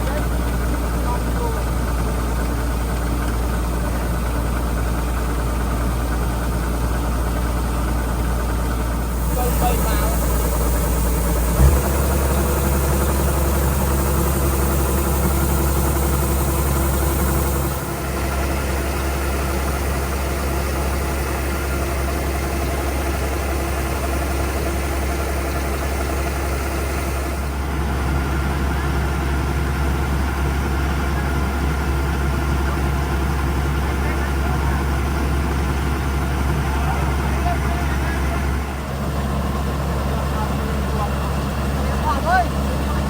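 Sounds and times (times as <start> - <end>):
harvester engine low hum: 0.0 - 43.0.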